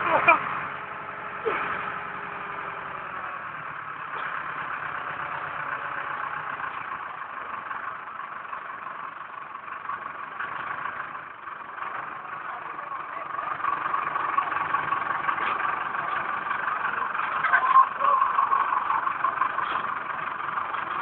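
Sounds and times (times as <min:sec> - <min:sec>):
digger engine running: 0:00.0 - 0:21.0.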